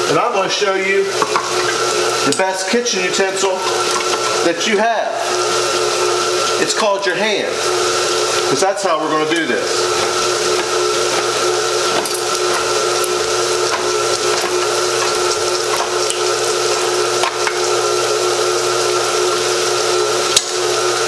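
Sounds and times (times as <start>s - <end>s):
electric can opener motor hum: 0.0s - 21.0s.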